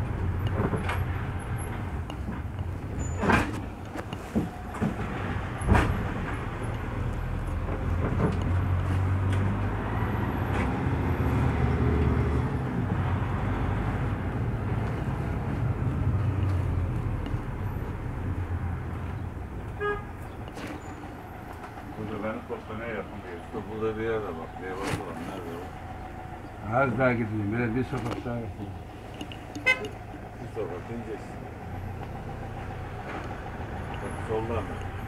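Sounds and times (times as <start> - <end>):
vehicle engine and road noise: 0.0 - 35.0.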